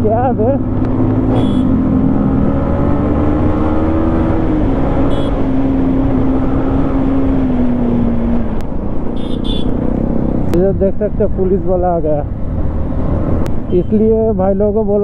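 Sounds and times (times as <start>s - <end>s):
motorcycle engine cruising: 0.0s - 14.4s.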